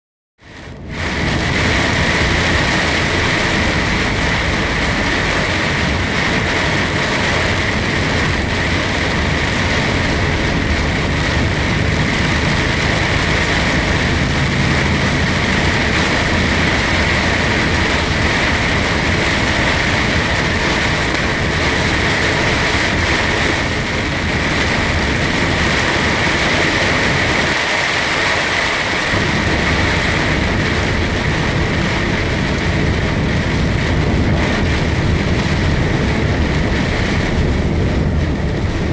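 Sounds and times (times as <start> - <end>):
engine drone: 0.4 - 38.9
hiss of rain and tyre spray: 0.4 - 38.9
low road rumble: 0.4 - 38.9.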